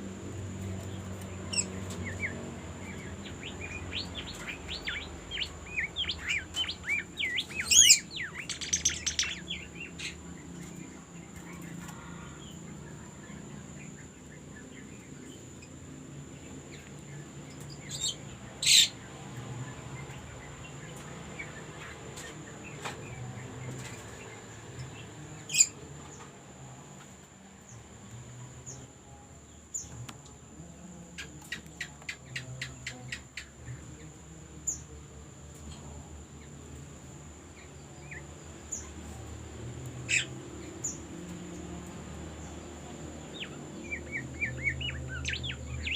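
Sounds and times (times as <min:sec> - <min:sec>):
songbird chirps: 0:00.0 - 0:45.9.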